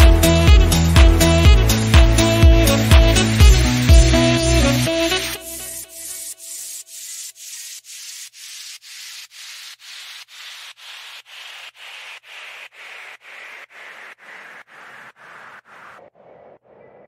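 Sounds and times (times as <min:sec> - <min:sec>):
rhythmic swishing: 0:00.0 - 0:17.0.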